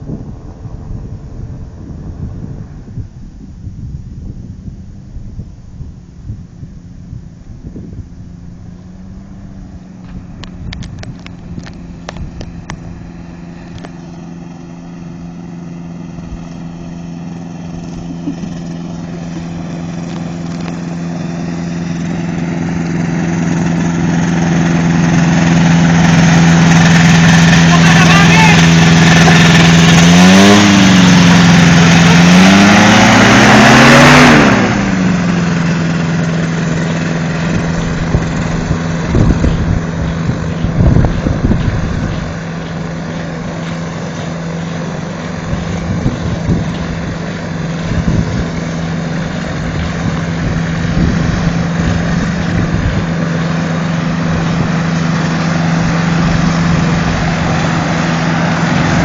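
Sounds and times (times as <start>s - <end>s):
microlight engine revving: 4.7s - 59.0s.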